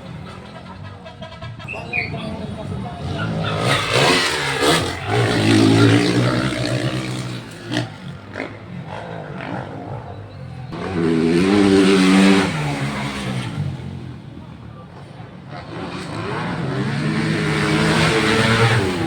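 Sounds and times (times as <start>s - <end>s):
dirt bike engines revving past: 0.0s - 19.0s.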